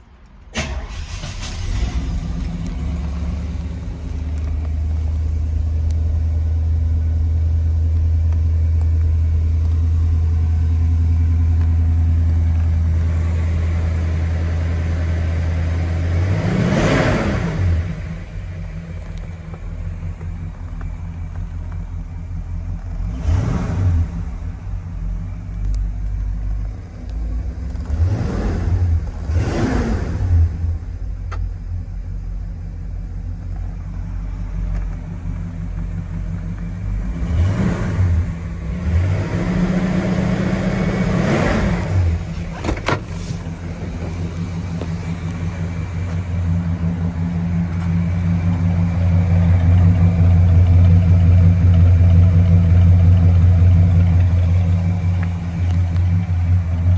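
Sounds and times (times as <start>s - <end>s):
car engine idling and revving: 0.0s - 56.9s.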